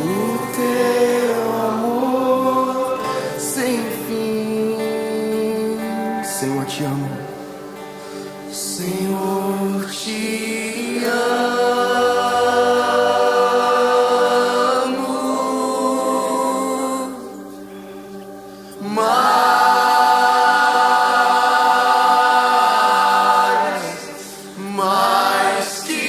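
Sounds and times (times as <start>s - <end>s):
voices singing worship: 0.0s - 26.0s.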